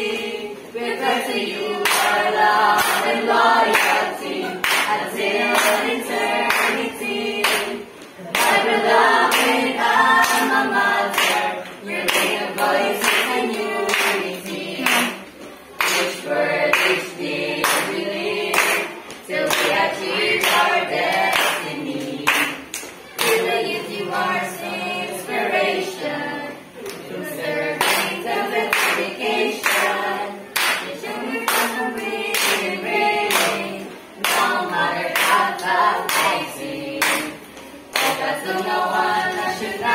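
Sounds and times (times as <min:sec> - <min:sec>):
group singing a hymn: 0:00.0 - 0:39.9
hands clapping to a beat: 0:01.8 - 0:23.5, 0:27.8 - 0:39.9.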